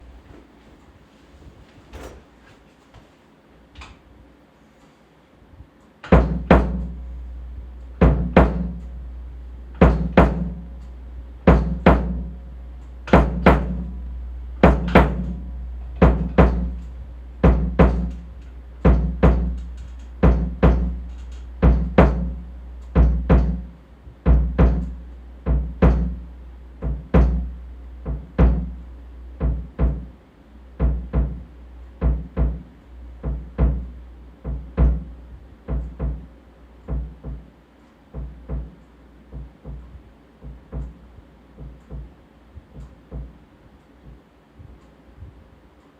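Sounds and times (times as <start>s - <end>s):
drum heartbeat hits: 6.1s - 37.5s, 38.1s - 45.6s.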